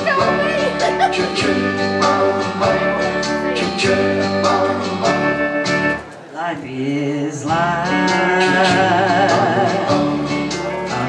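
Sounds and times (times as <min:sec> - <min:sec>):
recorded music with singing: 0:00.0 - 0:11.0.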